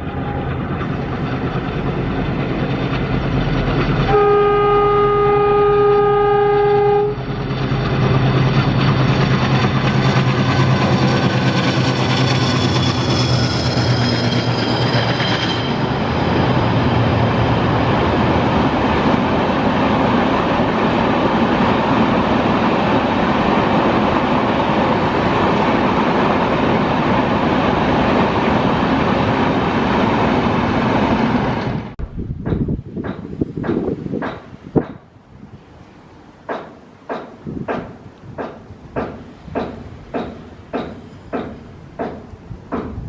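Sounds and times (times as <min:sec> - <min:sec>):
locomotive engine drone: 0:00.0 - 0:43.0
train coaches rumbling over rails: 0:00.0 - 0:43.0.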